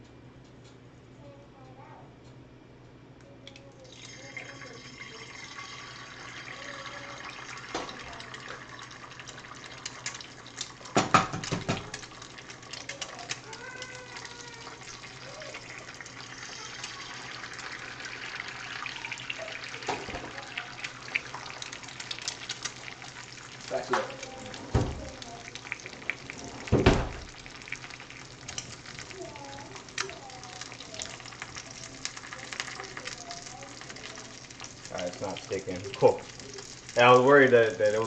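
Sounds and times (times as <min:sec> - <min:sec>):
eggs sizzling in a skillet: 0:03.5 - 0:38.0.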